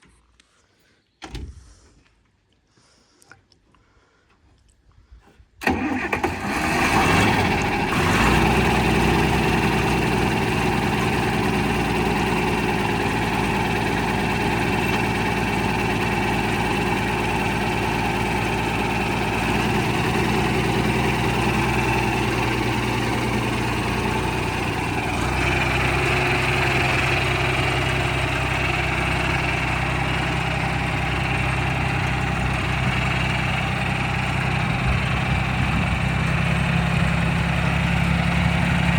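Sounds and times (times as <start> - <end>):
tractor engine starting and idling: 5.6 - 38.9.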